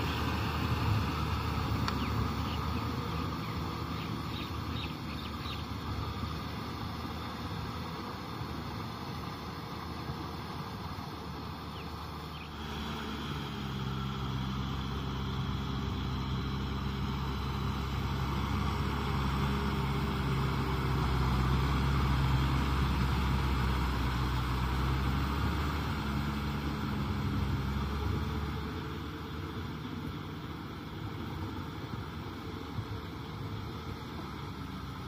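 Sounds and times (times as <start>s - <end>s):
tiller churning mud: 0.0s - 35.0s
tractor diesel engine running: 0.0s - 35.0s.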